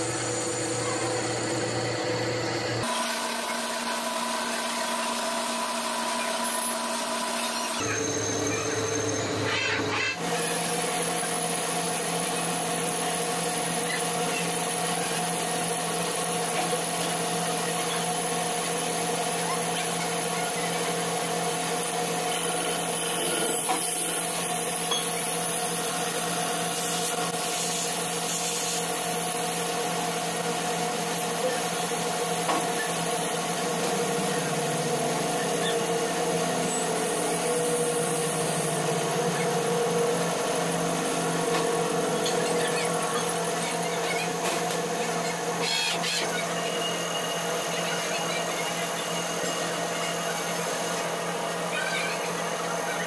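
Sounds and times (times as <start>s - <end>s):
lathe spindle humming: 0.0s - 9.4s, 10.2s - 45.6s.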